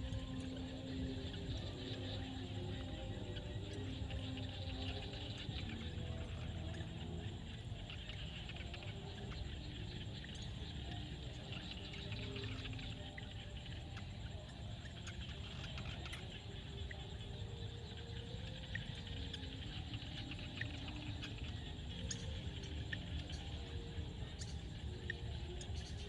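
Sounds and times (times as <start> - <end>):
frogs chirping and clicking: 0.0 - 26.0
low frog croaks: 0.0 - 26.0.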